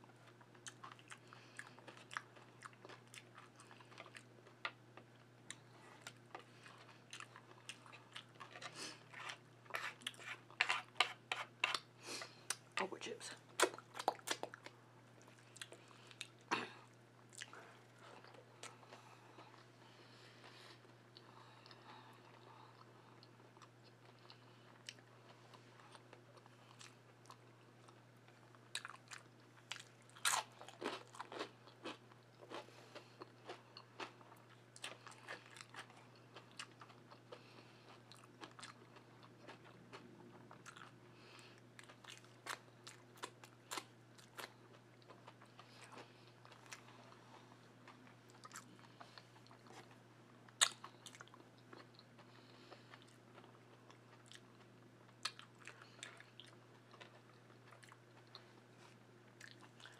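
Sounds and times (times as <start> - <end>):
person chewing crunchy food: 0.2 - 12.8, 13.5 - 59.9.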